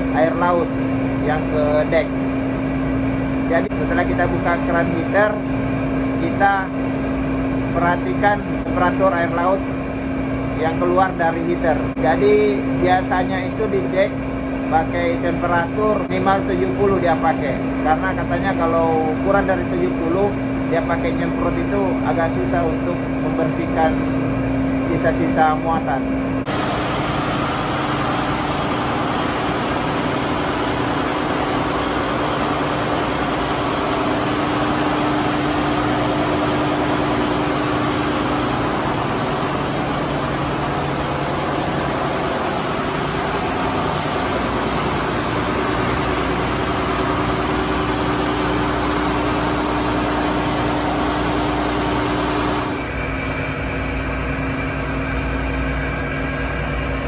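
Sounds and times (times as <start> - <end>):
diesel generators running: 0.0 - 57.0
high machinery whine: 0.0 - 57.0.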